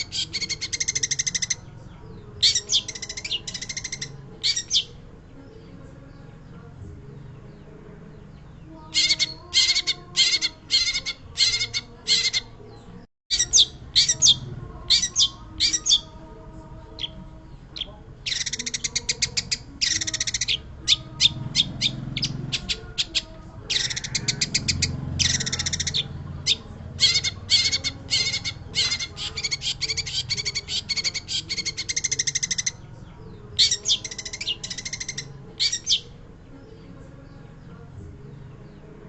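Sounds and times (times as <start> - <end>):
bird chattering song: 0.0 - 16.2, 16.8 - 39.0.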